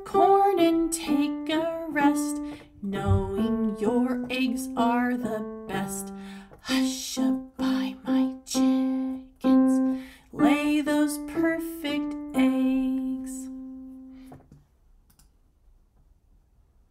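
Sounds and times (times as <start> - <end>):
woman singing: 0.0 - 13.8
digital piano: 0.0 - 14.5.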